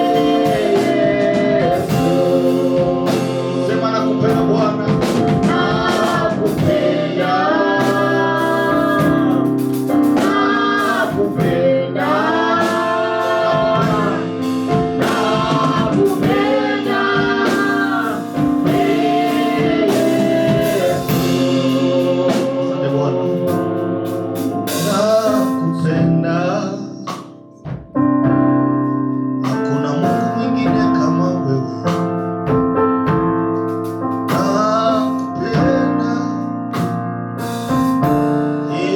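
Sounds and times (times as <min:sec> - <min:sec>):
gospel singing: 0:00.0 - 0:27.5, 0:29.4 - 0:32.1, 0:34.2 - 0:36.9, 0:37.9 - 0:38.9
keyboard chords: 0:00.0 - 0:38.9.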